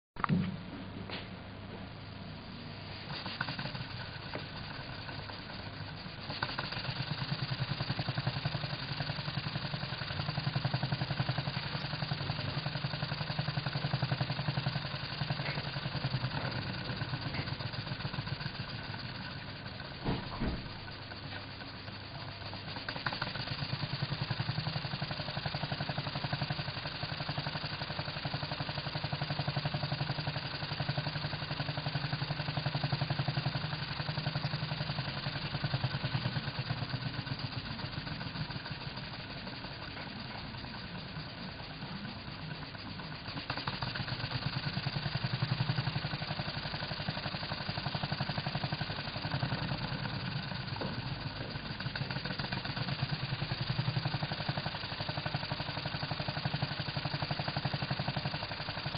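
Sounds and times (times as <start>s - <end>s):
model steam engine running: 2.3s - 58.9s.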